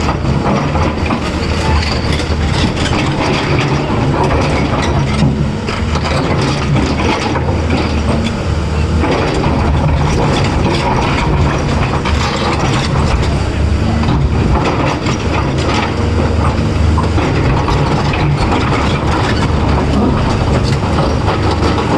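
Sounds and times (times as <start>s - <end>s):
excavator diesel engine running: 0.0s - 21.9s
metallic clattering and rattling: 0.0s - 21.9s.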